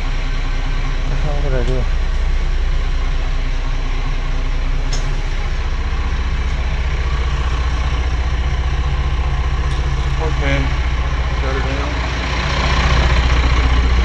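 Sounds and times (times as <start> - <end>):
marine diesel engines running: 0.0 - 14.0.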